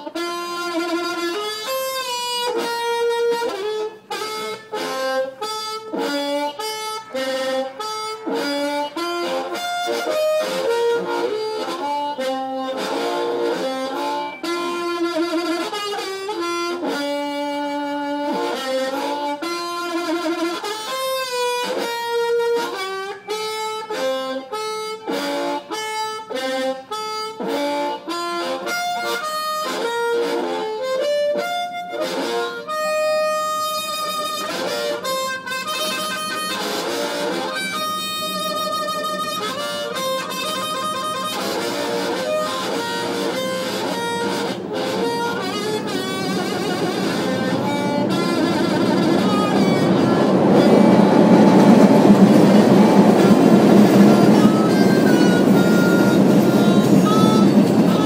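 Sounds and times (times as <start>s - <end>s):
harmonica melody: 0.0s - 58.0s.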